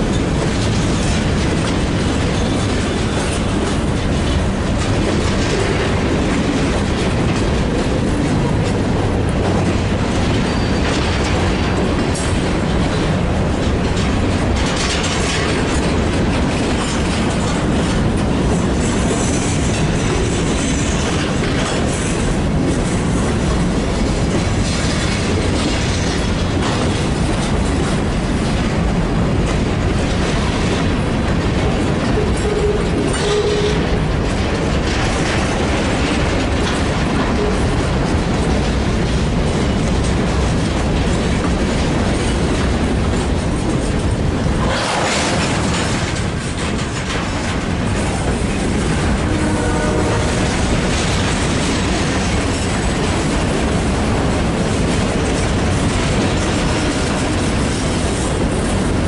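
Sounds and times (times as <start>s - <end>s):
clickety-clack over rail joints: 0.0s - 59.0s
steel wheels rumbling on rail: 0.0s - 59.0s.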